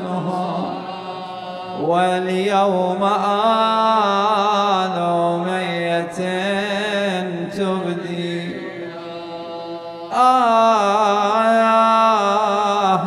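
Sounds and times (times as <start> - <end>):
man chanting a lament: 0.0 - 13.0.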